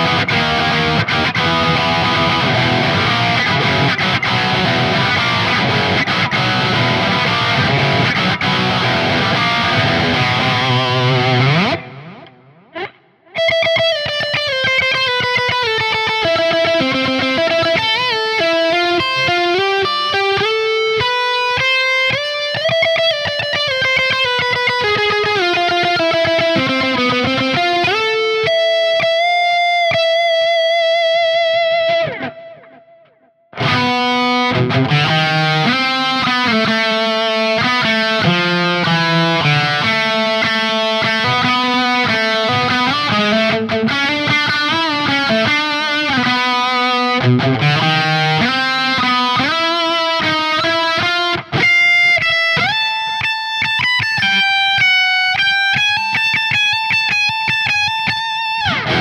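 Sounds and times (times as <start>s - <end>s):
electric guitar lead lines: 0.0s - 59.0s.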